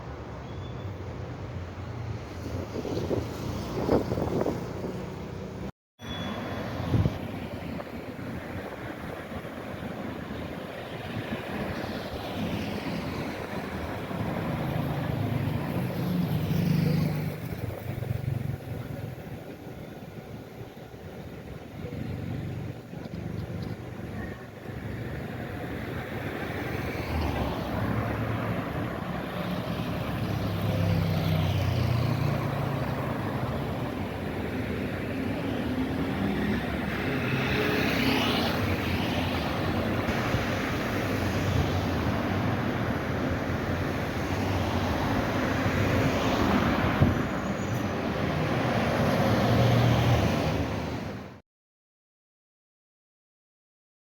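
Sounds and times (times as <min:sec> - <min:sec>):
road traffic noise: 0:00.0 - 0:51.4
vehicles passing close by: 0:00.0 - 0:51.4.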